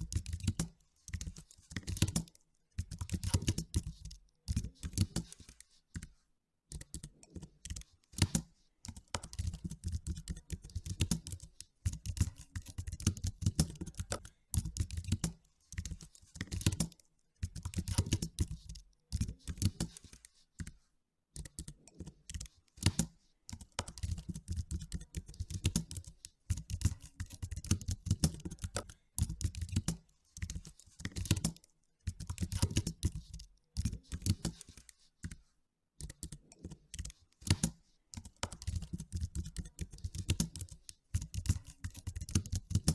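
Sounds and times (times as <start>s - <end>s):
computer keyboard typing: 0.0s - 42.9s.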